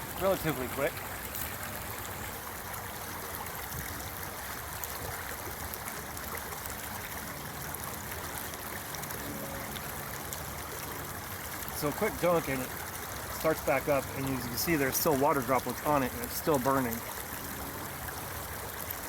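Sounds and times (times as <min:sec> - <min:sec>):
stream water flowing: 0:00.0 - 0:19.0.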